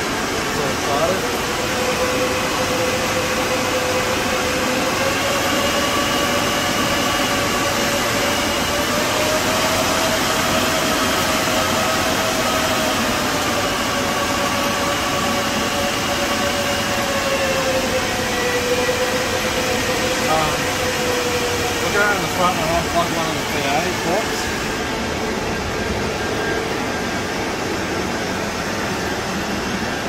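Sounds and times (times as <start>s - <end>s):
cooling fans whining: 0.0s - 30.0s.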